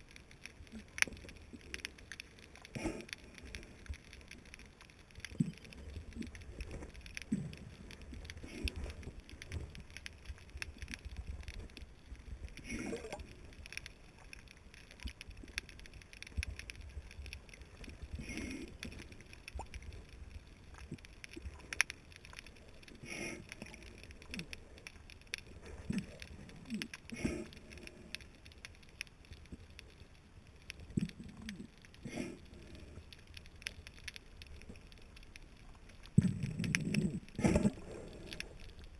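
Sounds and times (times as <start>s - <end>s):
underwater rumble of moving water: 0.0s - 38.9s
water swishes and gurgles: 0.0s - 38.9s.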